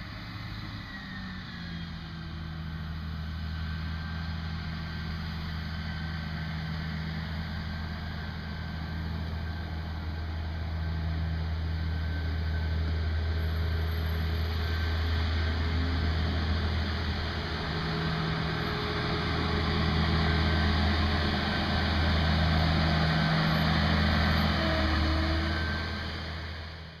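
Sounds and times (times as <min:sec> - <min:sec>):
combine diesel engine drone: 0:00.0 - 0:27.0.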